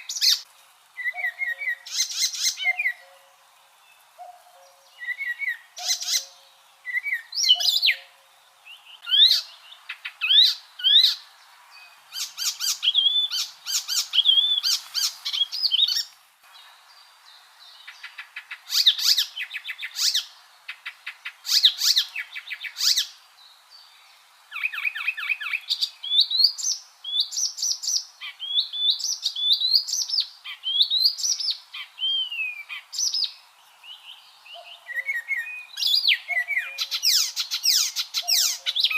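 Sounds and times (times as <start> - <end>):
warbler singing: 0.0 - 38.9.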